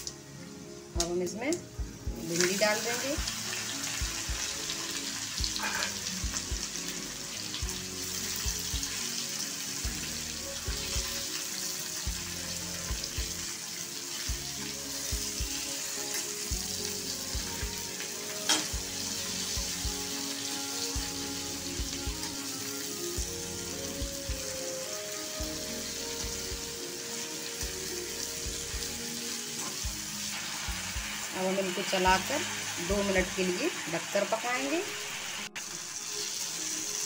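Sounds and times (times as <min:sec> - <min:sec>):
okra sizzling in hot oil: 0:00.0 - 0:37.0.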